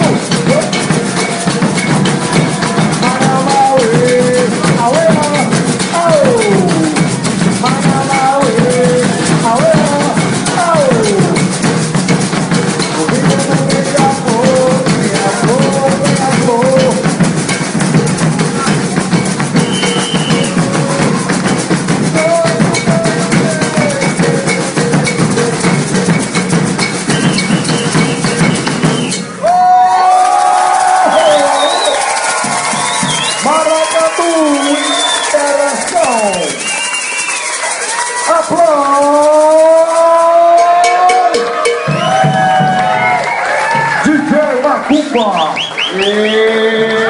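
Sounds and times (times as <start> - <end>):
drums and shakers beat: 0.0 - 47.0.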